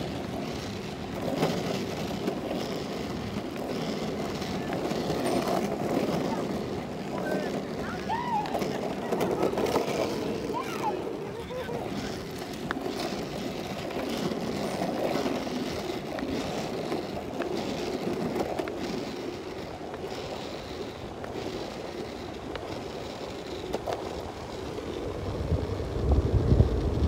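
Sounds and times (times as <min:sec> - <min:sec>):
longboard wheels rolling on asphalt: 0:00.0 - 0:27.0.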